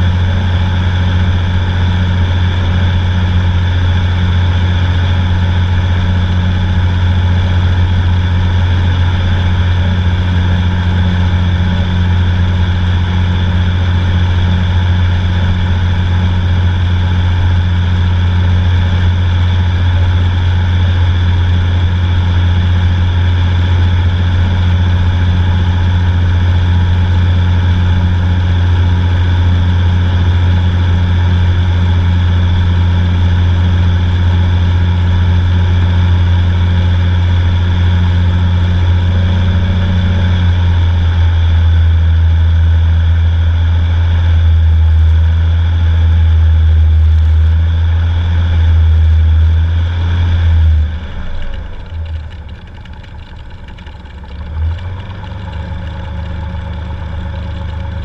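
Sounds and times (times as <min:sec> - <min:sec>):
propeller aircraft engine drone: 0:00.0 - 0:58.0.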